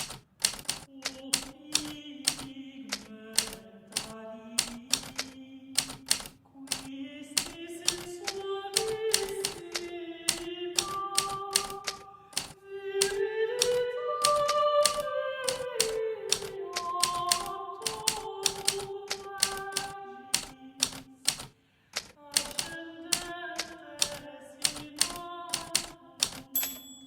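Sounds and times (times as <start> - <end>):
typewriter keys typing: 0.0 - 27.0.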